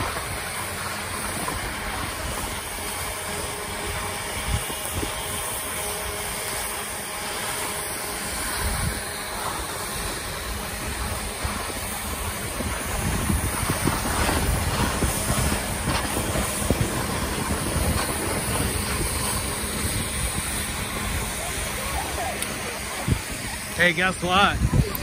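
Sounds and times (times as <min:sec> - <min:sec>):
skis scraping over snow: 0:00.0 - 0:25.0
snowmaking guns hissing: 0:00.0 - 0:25.0.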